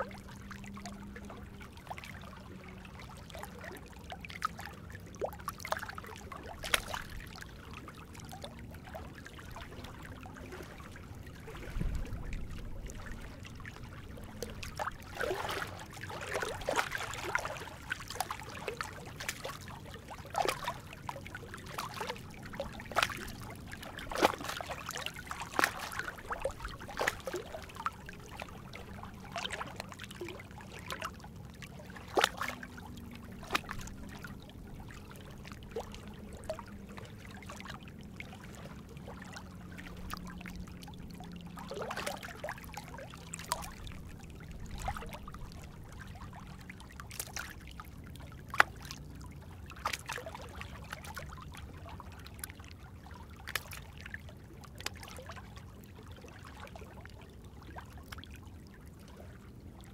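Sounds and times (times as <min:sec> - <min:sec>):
faint low drone: 0:00.0 - 0:49.8
small waves lapping on rocks: 0:00.0 - 0:59.9.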